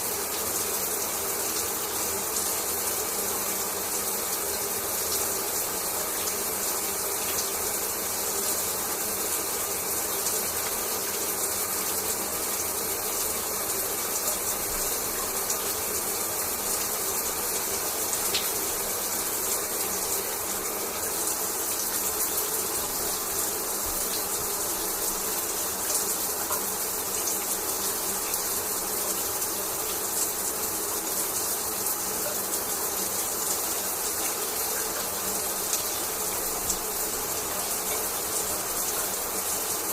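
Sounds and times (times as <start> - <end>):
shower water running: 0.0 - 39.9.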